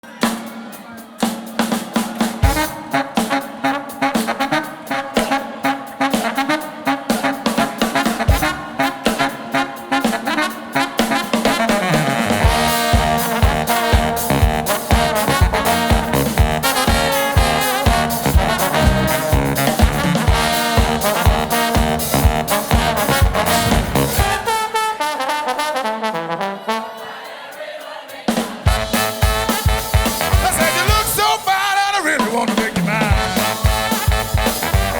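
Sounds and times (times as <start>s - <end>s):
drum kit steady beat: 0.0s - 26.4s, 27.0s - 34.9s
brass band playing upbeat music: 0.0s - 34.9s.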